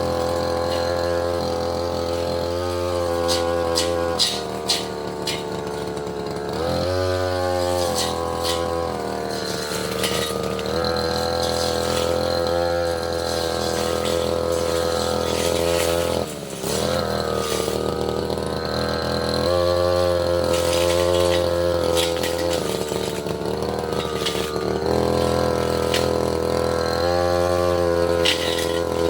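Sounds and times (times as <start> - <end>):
brush cutter engine running: 0.0 - 29.0.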